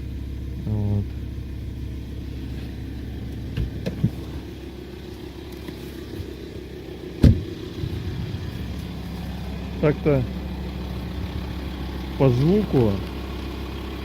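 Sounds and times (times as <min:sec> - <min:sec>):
diesel engine idling with rattle: 0:00.0 - 0:14.0
engine knocks: 0:00.0 - 0:14.0.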